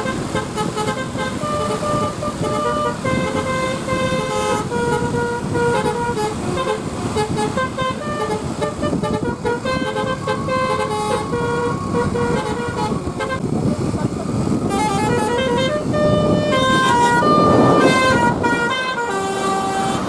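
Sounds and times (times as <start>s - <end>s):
multi-tone bus horn tune: 0.0s - 20.0s
road and engine rumble: 0.0s - 20.0s.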